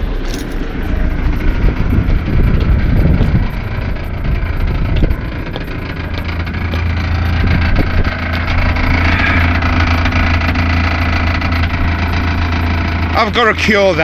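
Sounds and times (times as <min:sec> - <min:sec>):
light rattle: 0:00.0 - 0:13.1
diesel engine idling: 0:00.0 - 0:14.0.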